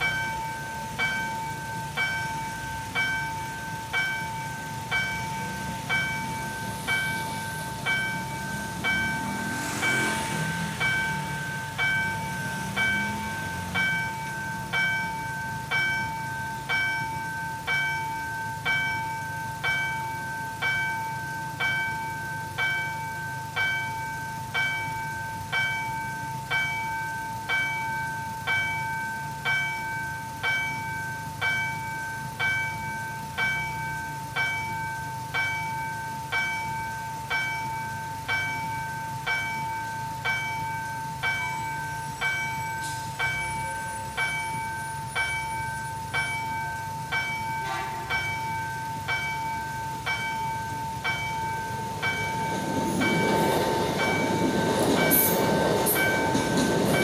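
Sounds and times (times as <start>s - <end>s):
level crossing bell ringing: 0.0s - 57.0s.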